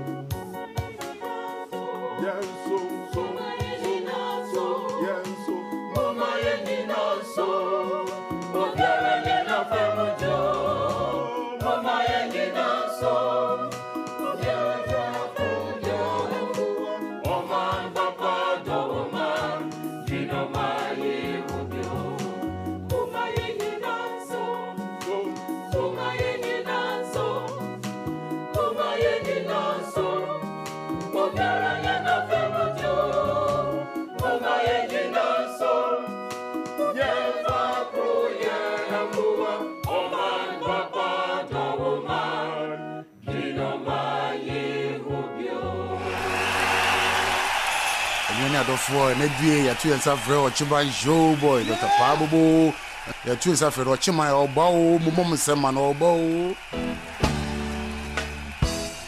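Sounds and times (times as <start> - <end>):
percussion: 0.0 - 40.2, 46.0 - 59.0
keyboard: 0.0 - 59.0
choir singing: 0.4 - 59.0.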